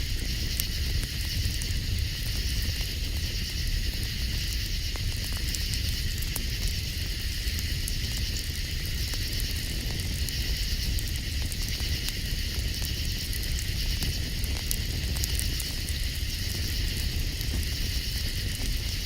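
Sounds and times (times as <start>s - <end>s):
campfire crackling: 0.0s - 19.0s
night insects chorus: 0.0s - 19.0s.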